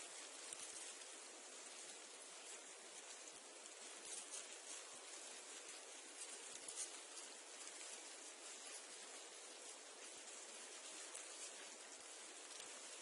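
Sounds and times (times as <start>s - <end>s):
reeds rustling in wind: 0.0s - 13.0s.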